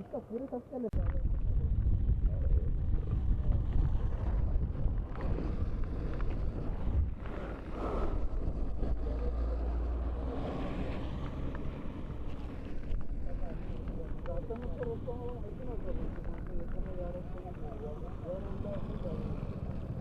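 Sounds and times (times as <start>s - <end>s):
motorcycle engine and road rumble: 0.0s - 20.0s
wind buffeting microphone: 0.8s - 20.0s.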